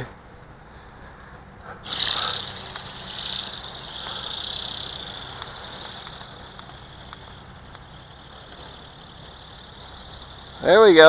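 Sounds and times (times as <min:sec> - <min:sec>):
high-pitched electric motor whine: 0:01.8 - 0:11.0.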